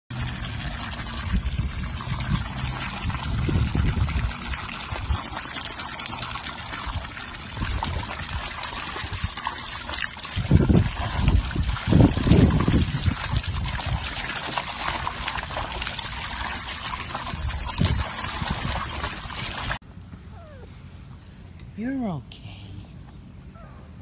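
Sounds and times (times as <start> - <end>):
hose water splashing into pool: 0.1 - 19.8.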